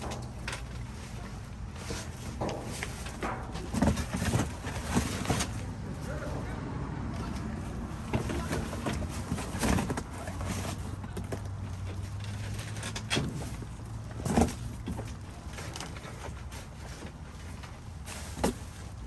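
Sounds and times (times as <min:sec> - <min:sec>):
knocks and clatter in dumpster: 0:00.0 - 0:06.4, 0:07.3 - 0:19.0.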